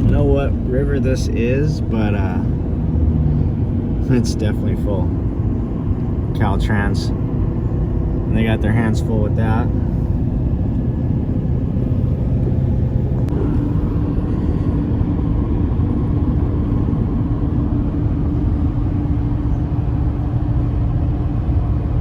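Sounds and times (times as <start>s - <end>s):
steady hum: 0.0s - 22.0s
vehicle driving on highway: 0.0s - 22.0s.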